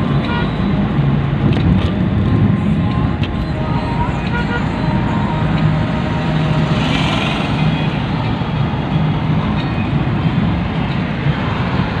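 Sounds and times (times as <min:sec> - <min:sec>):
low engine hum: 0:00.0 - 0:12.0
tyre and road rumble: 0:00.0 - 0:12.0.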